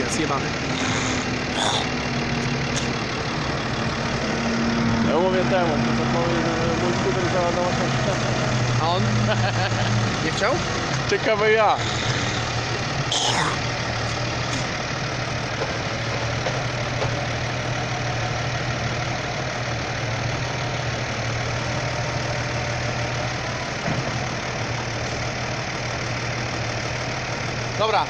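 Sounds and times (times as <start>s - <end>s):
tractor diesel engines idling: 0.0s - 28.0s.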